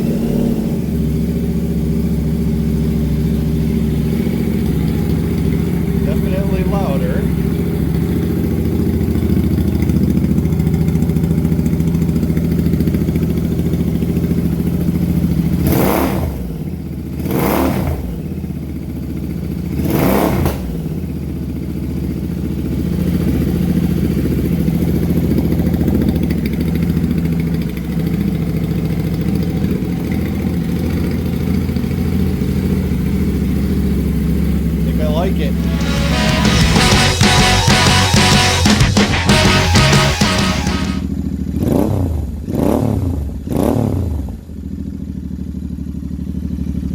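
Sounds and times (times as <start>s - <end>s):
motorcycle engine idling: 0.0s - 19.9s, 20.6s - 42.4s, 44.3s - 46.9s.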